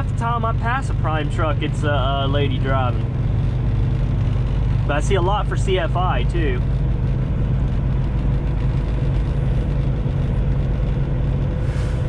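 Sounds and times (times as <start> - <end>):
road noise: 0.0 - 12.0
truck diesel engine running: 0.0 - 12.0.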